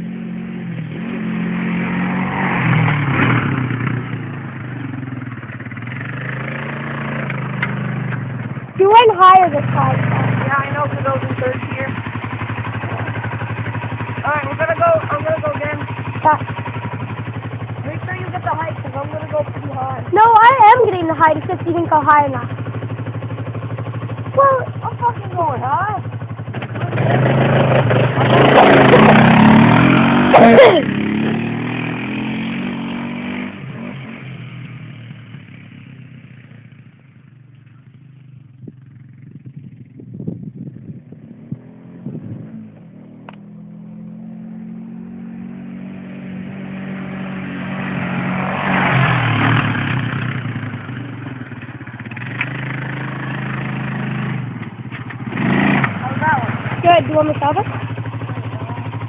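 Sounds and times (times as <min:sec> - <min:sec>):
quad engine revving: 0:00.0 - 0:36.2, 0:41.3 - 0:59.0.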